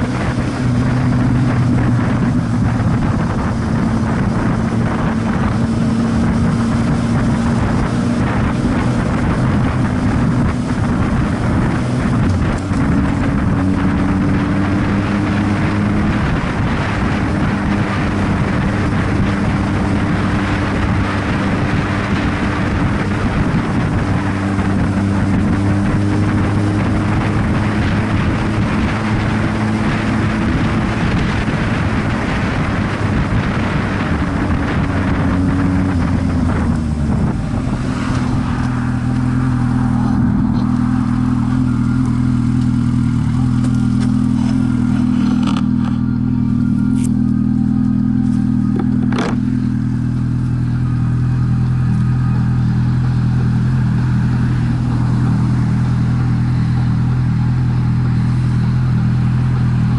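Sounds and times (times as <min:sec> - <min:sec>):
vehicle engine running: 0:00.0 - 0:59.9
wind and road rush: 0:00.0 - 0:59.9.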